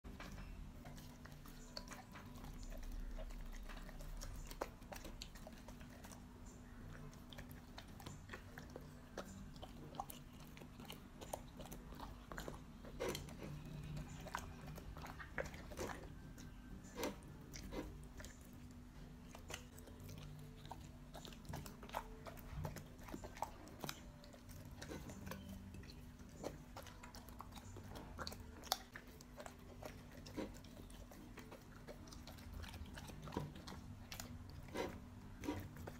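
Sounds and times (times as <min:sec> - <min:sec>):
dog chewing and licking: 0:00.0 - 0:35.9.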